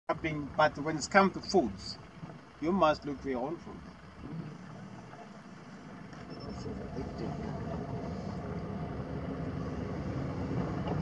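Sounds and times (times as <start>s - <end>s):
vehicle engine idling: 0.1s - 11.0s.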